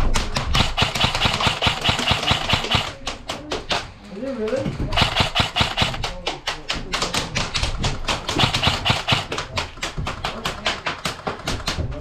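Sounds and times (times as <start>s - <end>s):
airsoft gun rapid shots: 0.0s - 3.4s, 5.0s - 11.8s.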